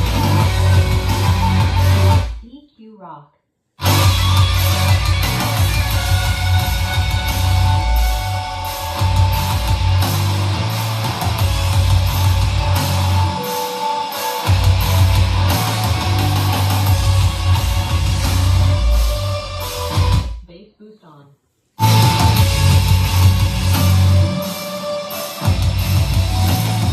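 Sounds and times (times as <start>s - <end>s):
rock music over speaker: 0.0s - 2.4s, 3.8s - 20.4s, 21.8s - 26.9s.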